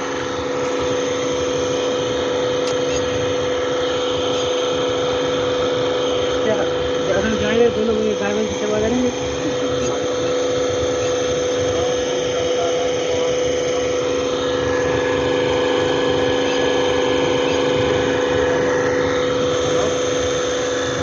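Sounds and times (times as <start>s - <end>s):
hydraulic pump humming and whining: 0.0s - 21.0s.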